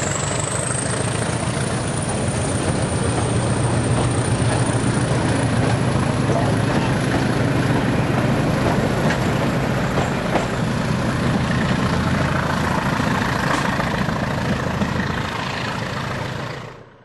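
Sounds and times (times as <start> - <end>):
diesel locomotive engine chopping: 0.0 - 17.0
passing train clicks: 0.0 - 17.0.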